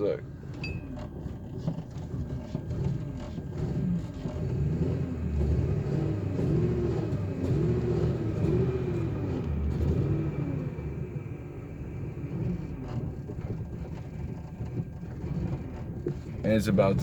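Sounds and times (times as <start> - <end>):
engine idling rough and surging: 0.0 - 17.0.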